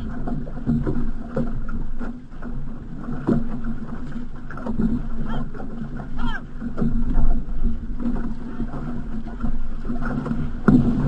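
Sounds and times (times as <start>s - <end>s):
paddle splashes: 0.0s - 11.0s
water rushing along a hull: 0.0s - 11.0s
wind rumbling on microphone: 0.0s - 11.0s.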